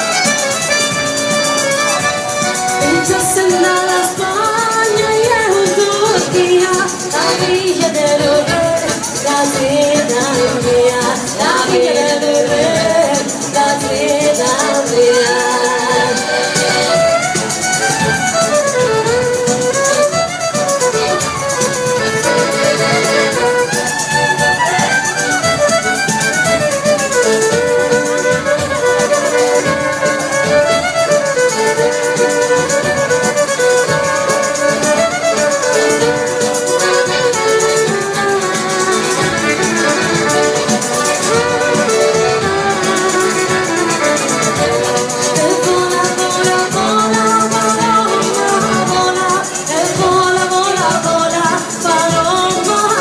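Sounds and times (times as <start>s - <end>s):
fast violin melody: 0.0s - 53.0s.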